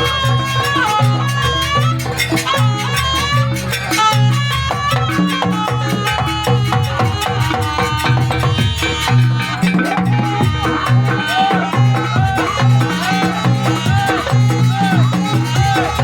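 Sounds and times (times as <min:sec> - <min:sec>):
drums and pitched percussion: 0:00.0 - 0:16.0.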